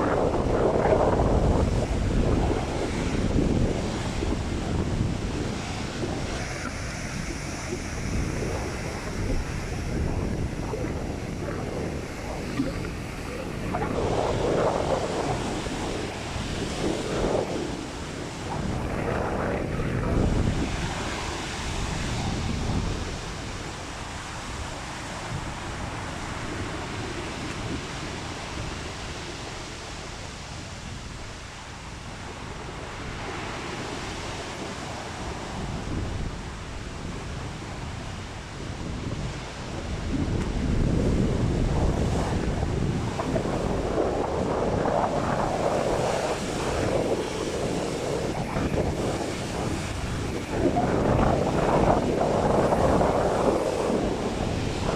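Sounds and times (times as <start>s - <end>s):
sea surf washing ashore: 0.0s - 54.9s
wind buffeting microphone: 0.0s - 54.9s.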